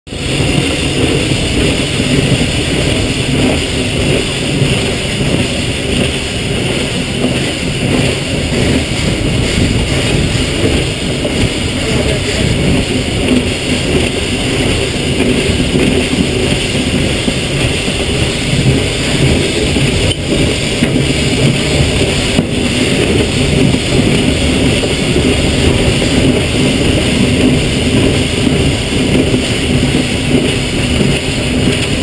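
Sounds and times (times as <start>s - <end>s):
steam train rumbling and rattling: 0.1s - 32.0s.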